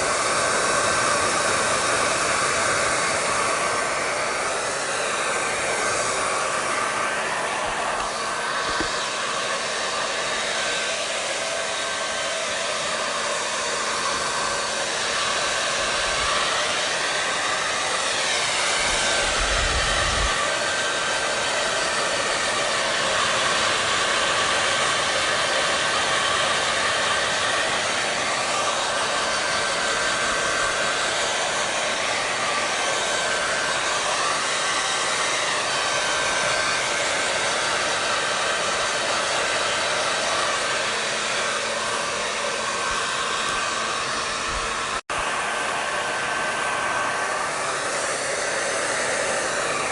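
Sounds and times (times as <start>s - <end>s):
hair dryer blowing: 0.0s - 49.9s.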